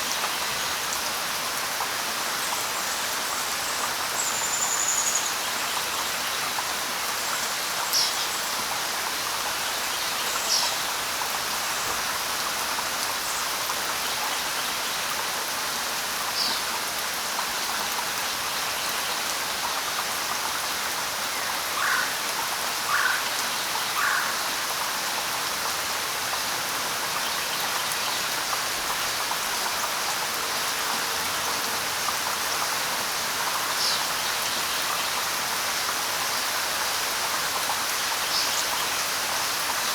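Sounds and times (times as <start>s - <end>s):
light rain on leaves: 0.0s - 39.9s.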